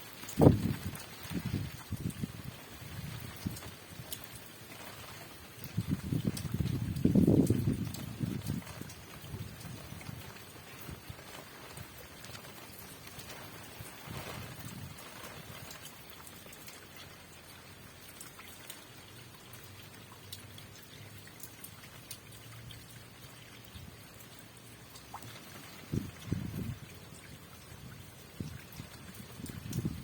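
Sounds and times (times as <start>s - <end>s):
rain falling: 0.0s - 30.0s
raindrops ticking: 0.0s - 30.0s.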